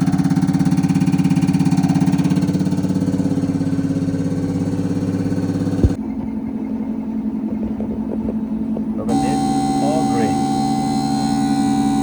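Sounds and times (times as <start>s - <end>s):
motor and pump drone pulsing: 0.0s - 12.0s.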